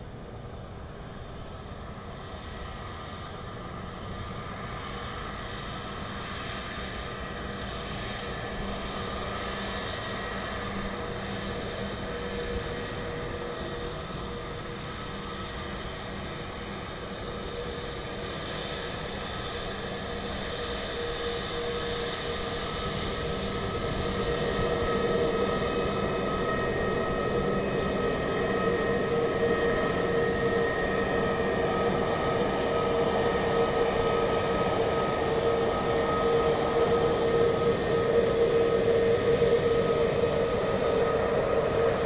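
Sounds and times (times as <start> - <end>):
jet engines idling hum: 0.0 - 42.0.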